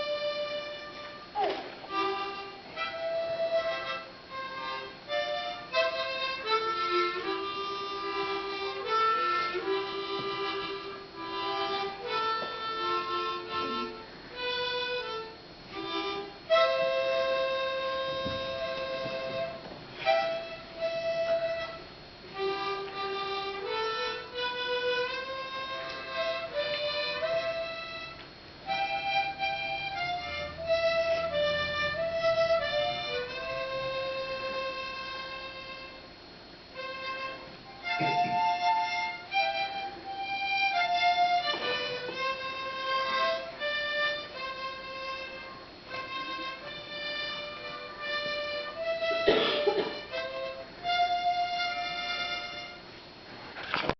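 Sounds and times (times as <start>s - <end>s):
harmonica melody with chords: 0.0s - 53.3s.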